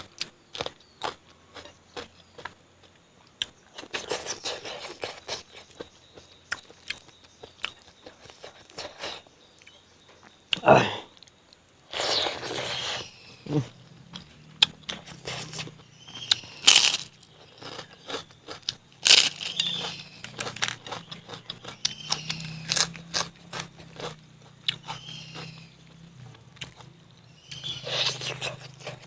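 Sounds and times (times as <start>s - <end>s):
person crunching and chewing food: 0.0s - 9.3s, 10.2s - 29.0s.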